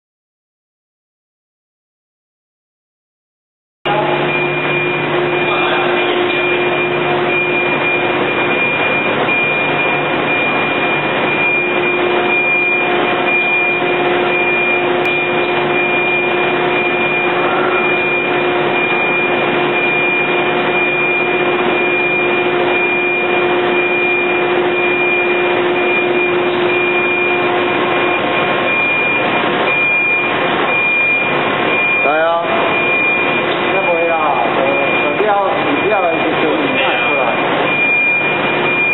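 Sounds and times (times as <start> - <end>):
machinery hiss and whine: 3.9 - 38.8
low machinery hum: 3.9 - 38.9.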